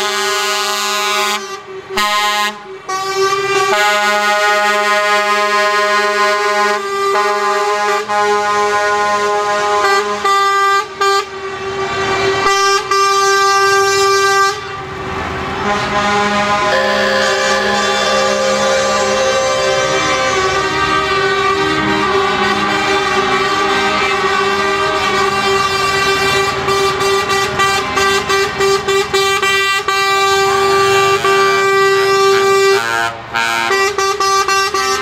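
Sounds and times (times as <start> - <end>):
truck air horns honking: 0.0 - 35.0.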